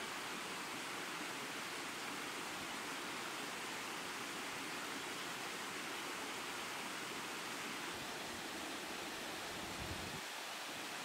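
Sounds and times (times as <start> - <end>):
waterfall splashing over rocks: 0.0 - 11.0.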